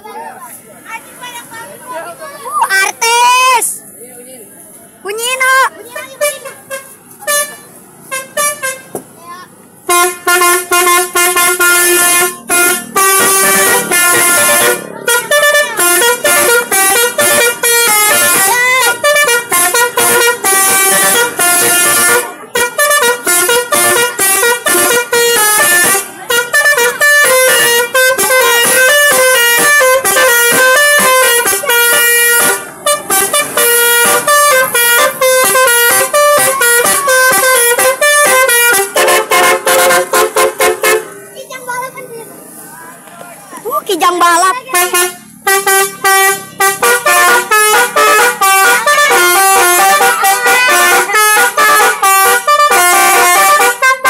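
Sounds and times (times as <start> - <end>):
car horns playing a melody: 5.1 - 9.1, 9.8 - 41.3, 43.9 - 54.0.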